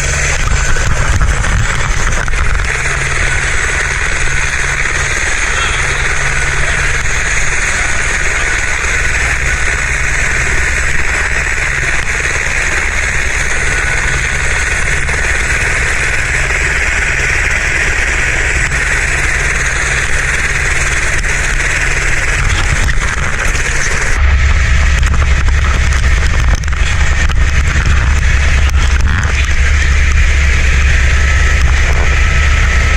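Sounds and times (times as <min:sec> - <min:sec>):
helicopter turbine and rotor noise: 0:00.0 - 0:32.9.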